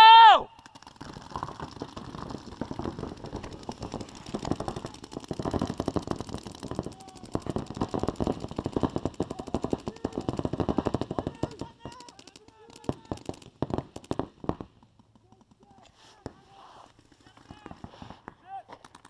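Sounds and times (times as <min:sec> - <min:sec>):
paintball markers firing rapidly: 0:00.5 - 0:19.0.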